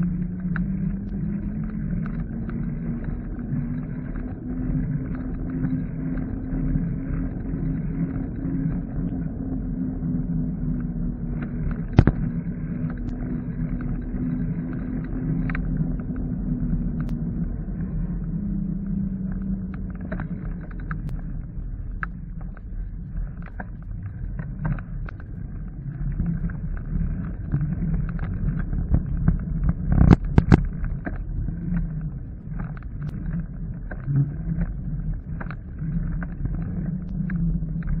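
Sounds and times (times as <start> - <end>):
low hum: 0.0 - 38.0
road rumble: 0.0 - 38.0
wind on microphone: 0.0 - 38.0.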